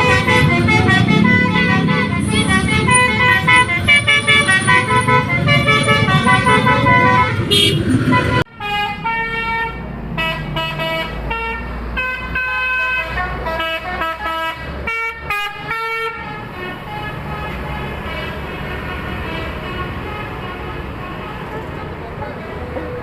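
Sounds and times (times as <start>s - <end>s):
bus horn playing a tune: 0.0s - 23.0s.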